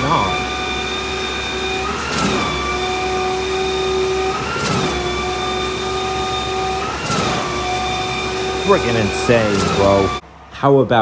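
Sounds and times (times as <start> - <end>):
pump knocking: 0.0 - 10.2
concrete pump engine running: 0.0 - 11.0.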